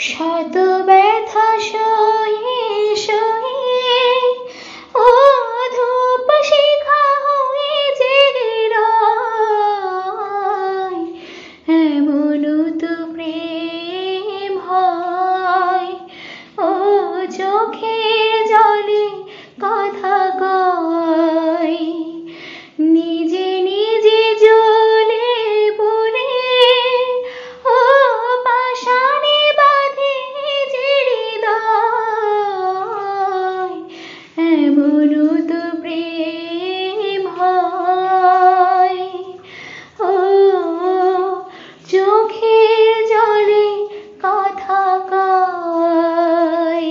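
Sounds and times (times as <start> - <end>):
woman singing unaccompanied: 0.0 - 46.9.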